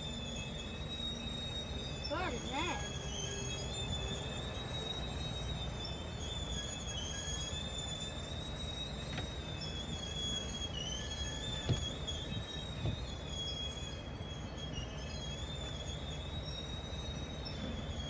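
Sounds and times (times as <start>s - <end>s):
wheel squeal: 0.0s - 18.0s.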